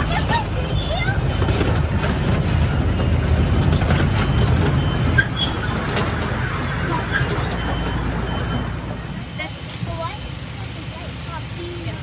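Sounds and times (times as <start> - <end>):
birds chirping: 0.0 - 11.4
miniature train rumbling on track: 0.0 - 12.0.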